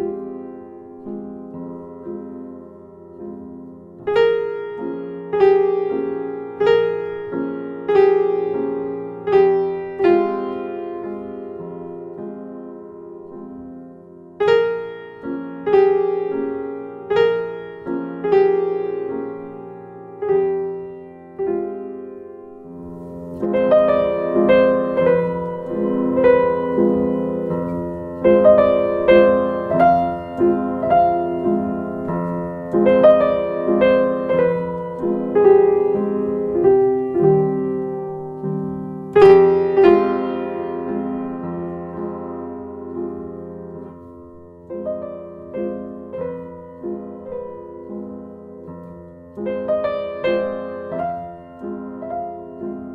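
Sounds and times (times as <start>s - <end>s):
slow gentle piano piece: 0.0s - 52.9s.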